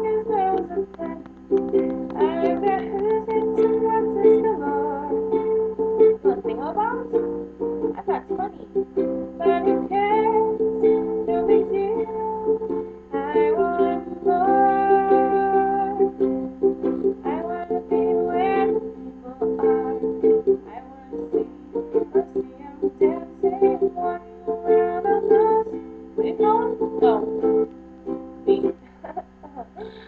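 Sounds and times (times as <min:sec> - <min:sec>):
young woman singing: 0:00.0 - 0:27.6, 0:28.4 - 0:30.0
ukulele strummed in chords: 0:00.0 - 0:28.8.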